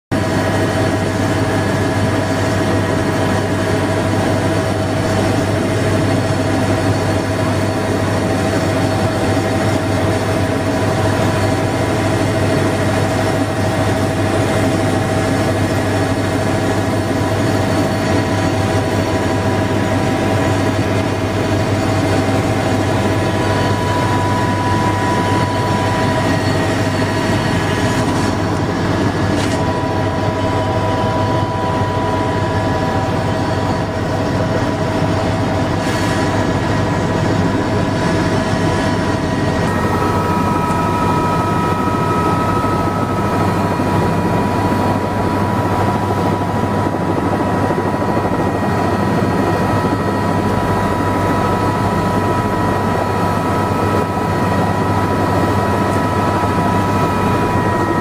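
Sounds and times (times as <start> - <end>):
helicopter engine and rotor drone: 0.1 - 58.0.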